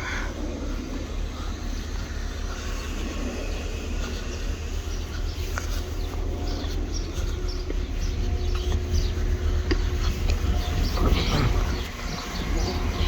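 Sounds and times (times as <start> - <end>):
faint steady tones: 0.0 - 13.0
train rumbling past: 0.0 - 13.0.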